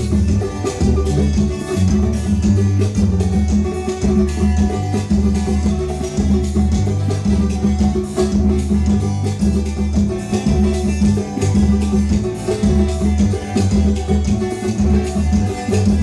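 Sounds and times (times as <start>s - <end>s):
bass: 0.0s - 16.0s
percussion steady beat: 0.0s - 16.0s
plucked viola caipira: 0.0s - 16.0s.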